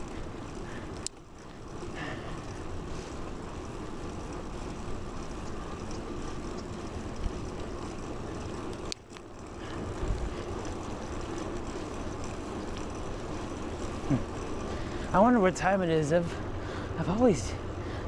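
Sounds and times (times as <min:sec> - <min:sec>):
bicycle road rumble: 0:00.0 - 0:18.0.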